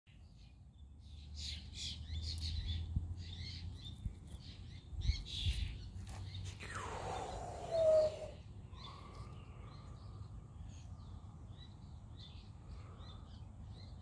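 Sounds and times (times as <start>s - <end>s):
small birds chirping: 0.1s - 14.0s.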